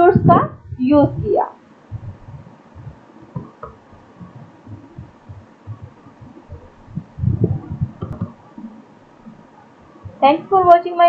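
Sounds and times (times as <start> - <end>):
low muffled thumps and rumbling: 0.0 - 11.0.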